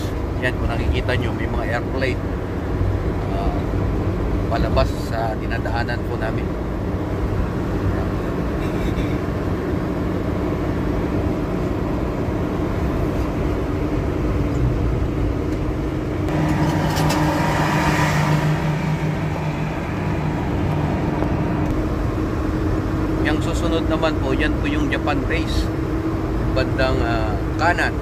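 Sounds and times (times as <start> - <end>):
vehicle engine and road noise: 0.0 - 28.0.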